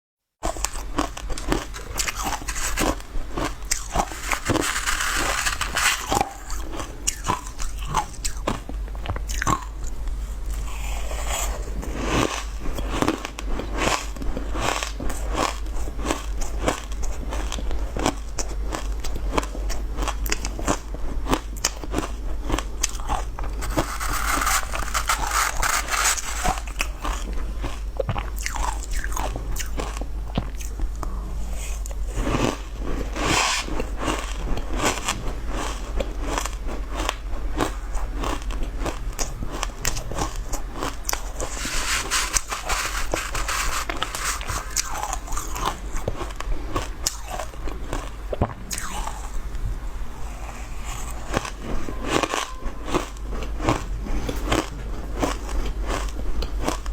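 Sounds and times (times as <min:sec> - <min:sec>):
chewing ice crunching: 0:00.4 - 0:49.3, 0:50.9 - 0:56.9.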